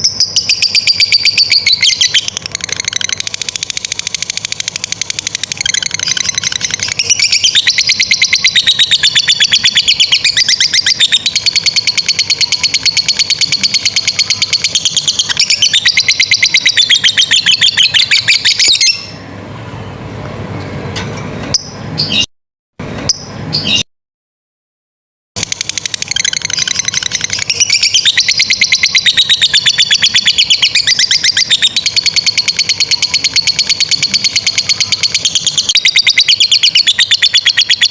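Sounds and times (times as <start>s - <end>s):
lovebird chattering: 0.0s - 19.1s, 25.4s - 37.9s.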